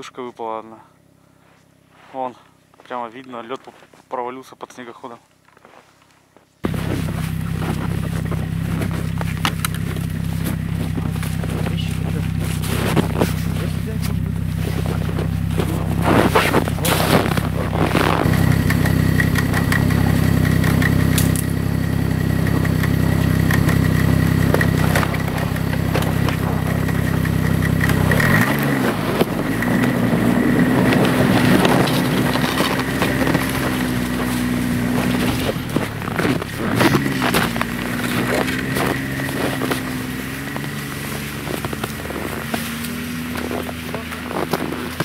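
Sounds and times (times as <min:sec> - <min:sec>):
snowmobile engine idling and revving: 0:06.6 - 0:45.0.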